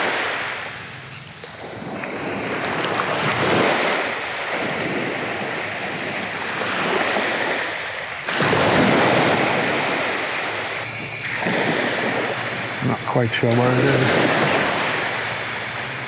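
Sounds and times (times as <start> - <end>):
small waves washing up beach: 0.0 - 16.0
wind noise on microphone: 0.0 - 16.0.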